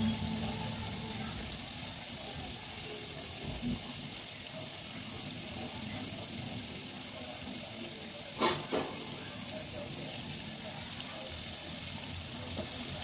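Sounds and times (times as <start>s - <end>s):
deep-frying in hot oil: 0.0s - 13.0s.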